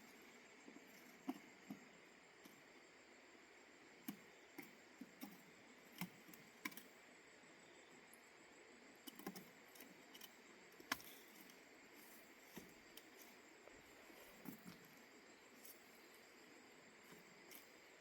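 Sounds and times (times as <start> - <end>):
low steady hiss: 0.0 - 18.0.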